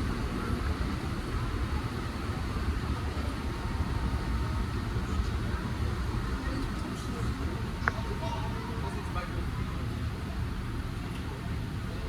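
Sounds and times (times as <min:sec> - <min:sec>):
moving boat rumble and hiss: 0:00.0 - 0:12.0.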